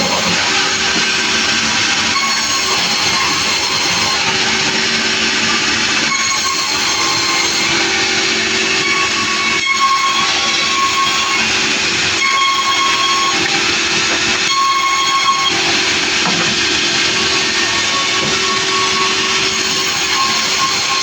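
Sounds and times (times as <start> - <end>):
high saw whine: 0.0 - 21.0
sawing hiss: 0.0 - 21.0.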